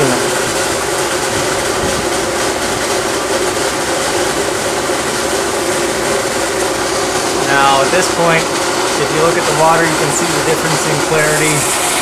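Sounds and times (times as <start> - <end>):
protein skimmer rushing: 0.0 - 12.0.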